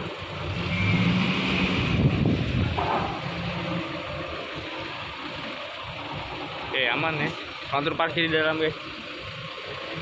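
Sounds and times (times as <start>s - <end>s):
harbour background noise: 0.0s - 10.0s
truck engine rumbling: 0.0s - 10.0s.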